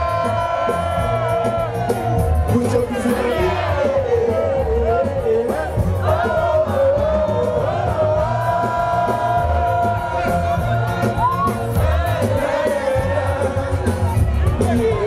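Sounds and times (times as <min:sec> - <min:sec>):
crowd noise: 0:00.0 - 0:15.0
heavy bass beat: 0:00.0 - 0:15.0
man singing: 0:00.0 - 0:15.0.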